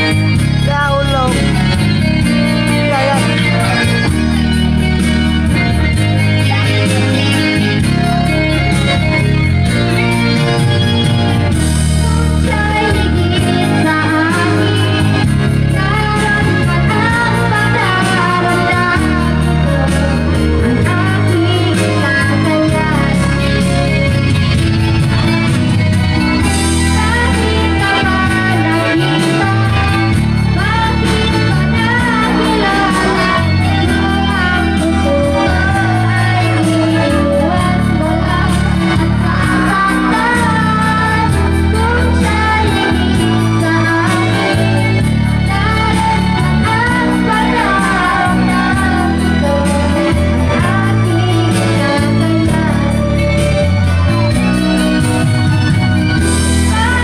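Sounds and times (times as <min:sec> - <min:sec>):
woman singing into microphone: 0:00.0 - 0:24.6, 0:26.4 - 0:55.0, 0:55.6 - 0:57.0
bass line: 0:00.0 - 0:57.0
guitar: 0:00.0 - 0:57.0.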